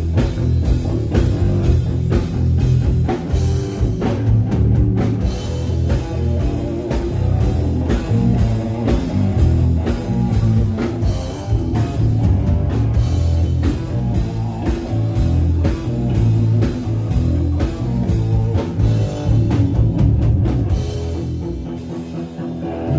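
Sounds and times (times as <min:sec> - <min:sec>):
rock band playing live: 0:00.0 - 0:22.9.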